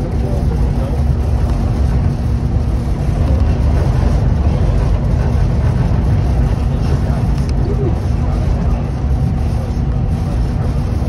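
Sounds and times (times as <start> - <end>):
constant low hum: 0.0 - 11.0
train rumble: 0.0 - 11.0.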